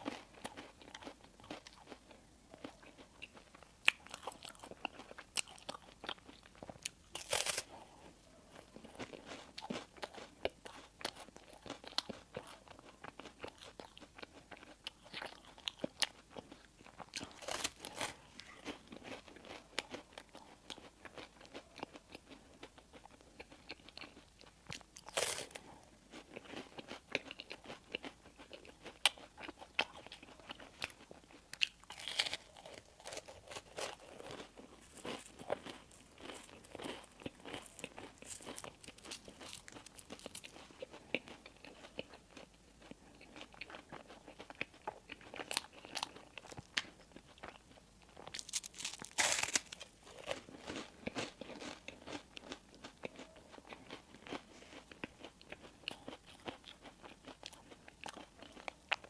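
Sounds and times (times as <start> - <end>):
person chewing crunchy bread: 0.0 - 59.0.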